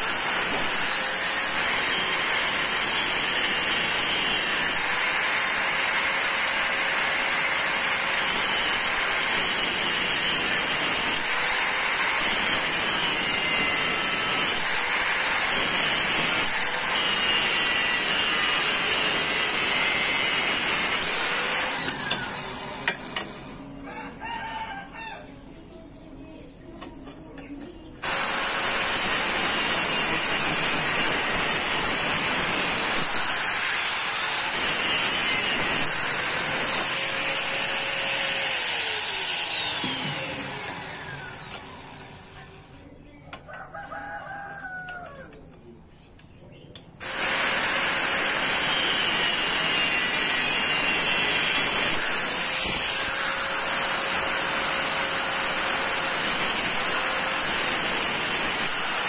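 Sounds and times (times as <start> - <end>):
angle grinder cutting steel: 0.0 - 23.4, 28.0 - 42.6, 47.0 - 59.0.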